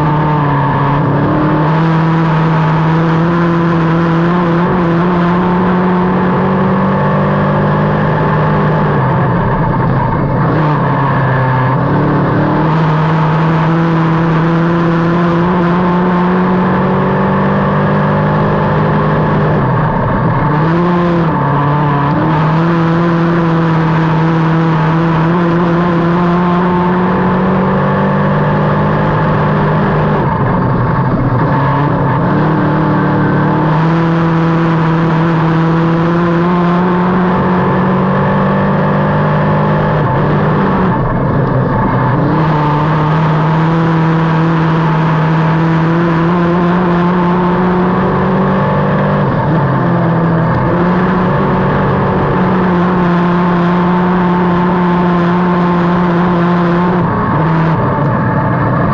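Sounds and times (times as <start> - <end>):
race car engine running hard: 0.0 - 58.9.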